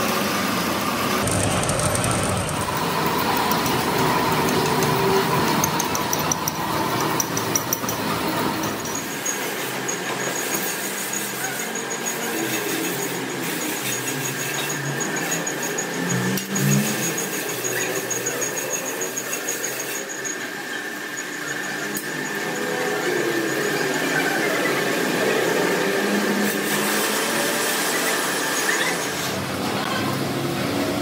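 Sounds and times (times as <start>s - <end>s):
workshop machinery noise: 0.0s - 31.0s.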